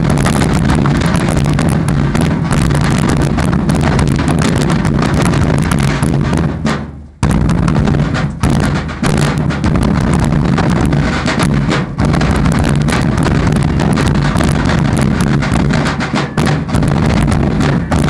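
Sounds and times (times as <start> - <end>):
snare and bass drums beating: 0.0 - 18.0.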